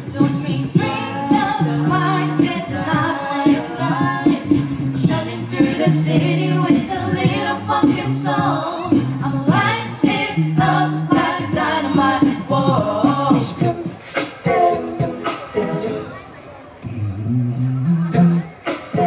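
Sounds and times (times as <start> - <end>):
a cappella group singing harmony: 0.0 - 16.2, 18.1 - 19.0.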